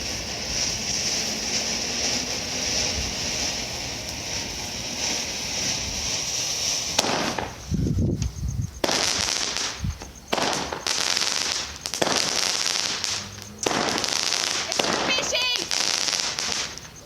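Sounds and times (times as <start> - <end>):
firework fountain hissing and crackling: 0.0 - 17.0.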